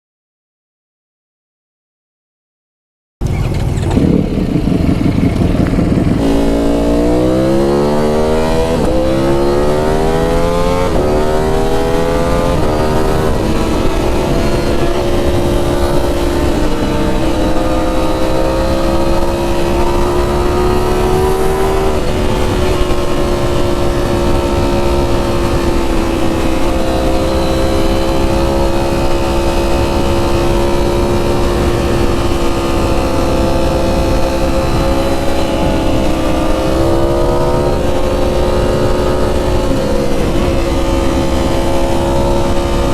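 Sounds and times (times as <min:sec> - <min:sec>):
motorcycle engine accelerating: 0:03.2 - 0:42.9.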